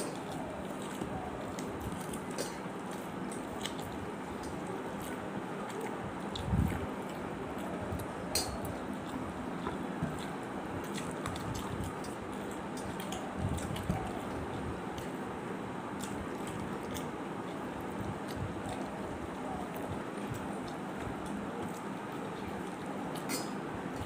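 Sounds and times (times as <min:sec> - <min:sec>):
chewing and mouth clicks: 0:00.0 - 0:15.2, 0:16.0 - 0:24.0.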